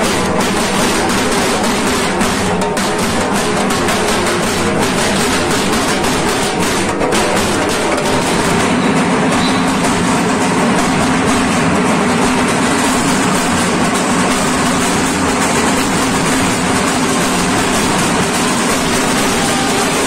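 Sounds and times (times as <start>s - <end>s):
many drums playing together: 0.0s - 20.0s.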